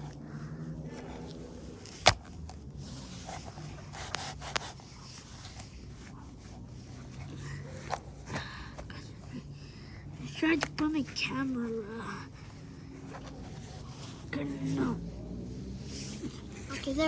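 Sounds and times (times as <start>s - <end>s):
rubbing and handling noises: 0.0s - 17.0s
steady low hum: 0.0s - 17.0s.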